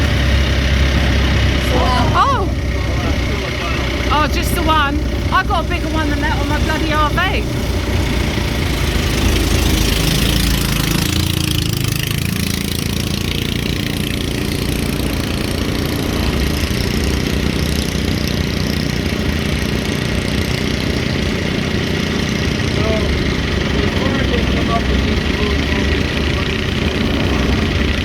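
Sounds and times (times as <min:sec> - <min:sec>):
boat engine rumbling: 0:00.0 - 0:28.0
wind: 0:00.0 - 0:28.0.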